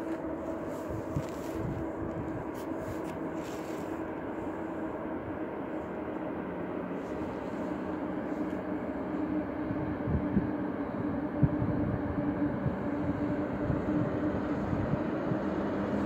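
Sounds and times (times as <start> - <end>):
electric locomotive humming: 0.0 - 16.0.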